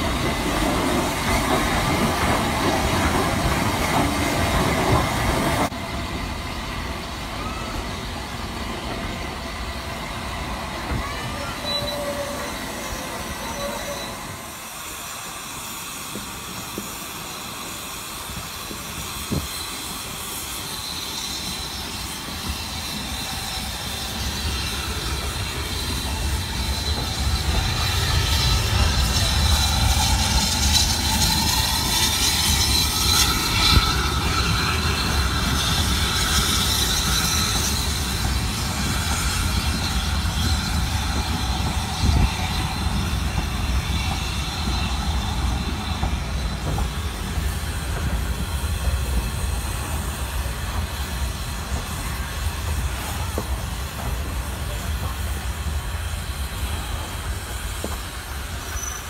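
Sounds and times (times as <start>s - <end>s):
steam hissing: 0.0s - 59.0s
train rumbling: 0.0s - 59.0s.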